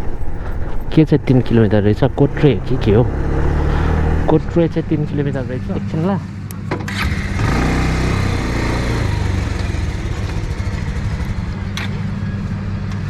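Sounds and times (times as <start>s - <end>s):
motorcycle engine pulling away: 0.0s - 12.9s
wind and road noise: 0.0s - 13.0s.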